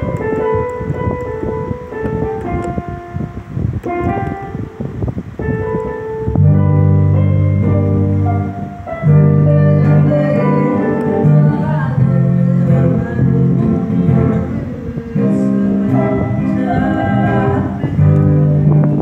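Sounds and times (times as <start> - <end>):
electronic keyboard melody: 0.0 - 19.0
held low keyboard chords: 0.0 - 19.0.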